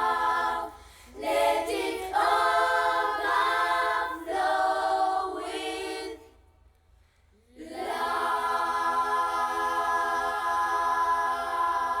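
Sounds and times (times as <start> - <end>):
children's choir singing: 0.0 - 6.2, 7.6 - 12.0.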